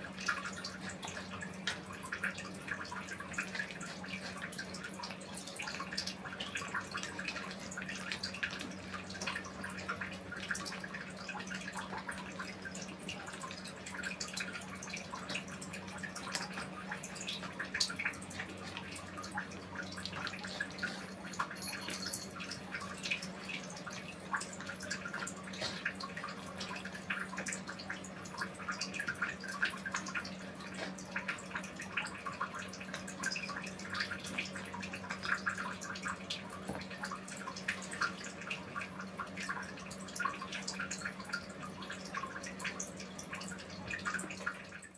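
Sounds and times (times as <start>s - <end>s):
kittens licking and chewing: 0.0s - 44.7s.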